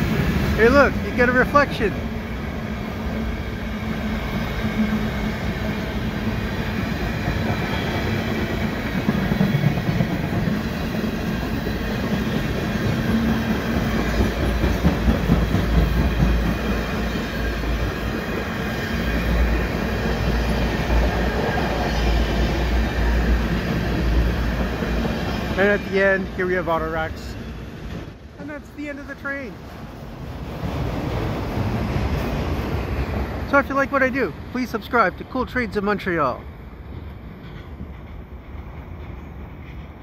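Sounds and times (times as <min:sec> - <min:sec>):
train wheels rumbling and clattering: 0:00.0 - 0:40.0.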